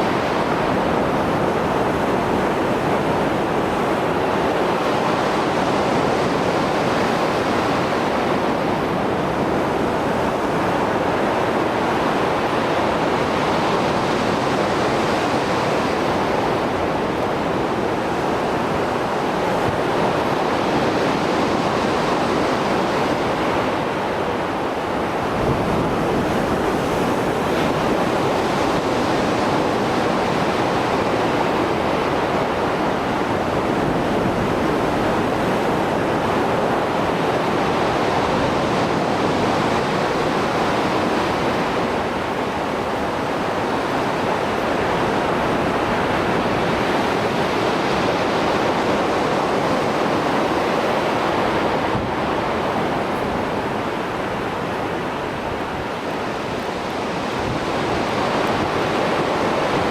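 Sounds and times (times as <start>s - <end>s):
surf breaking on shore: 0.0s - 59.9s.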